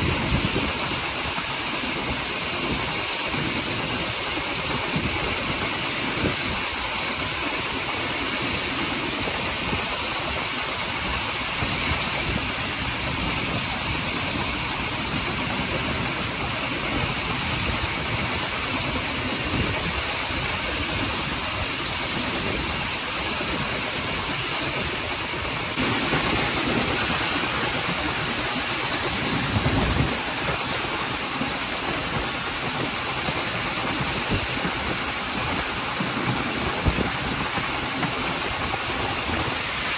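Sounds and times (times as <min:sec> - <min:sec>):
rush of steam: 0:00.0 - 0:39.9
train wheels on rail: 0:00.0 - 0:39.9
wind: 0:00.0 - 0:39.9.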